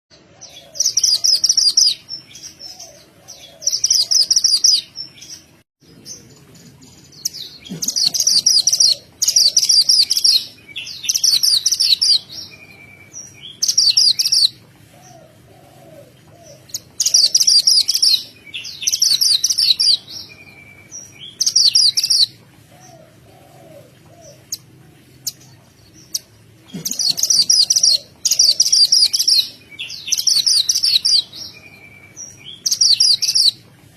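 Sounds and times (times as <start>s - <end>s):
songbird chattering song: 0.1s - 33.6s.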